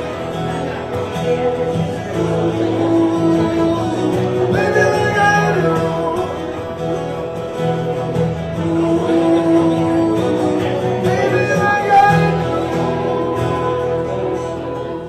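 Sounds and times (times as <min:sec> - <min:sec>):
country guitar playing: 0:00.0 - 0:15.0.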